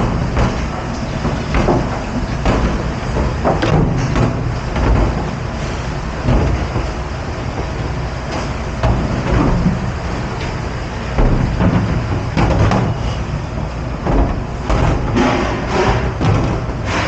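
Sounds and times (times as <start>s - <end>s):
kitchen machinery rumble: 0.0s - 17.0s.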